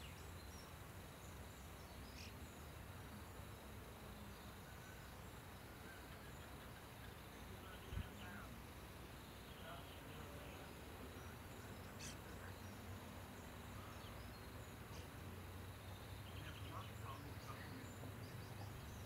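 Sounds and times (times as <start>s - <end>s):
faint chirps and trills: 0.0s - 19.0s.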